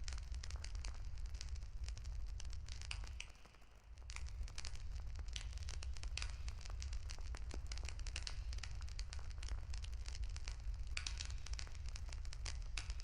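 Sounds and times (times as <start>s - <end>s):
campfire crackling and popping: 0.0s - 3.4s, 4.0s - 13.0s.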